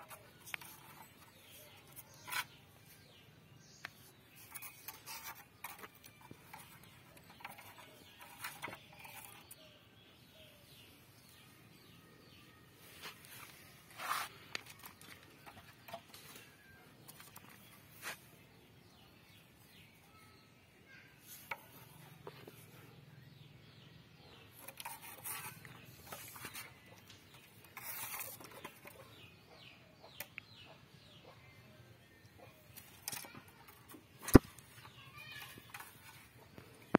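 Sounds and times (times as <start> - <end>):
faint chirping calls: 0.0 - 36.9.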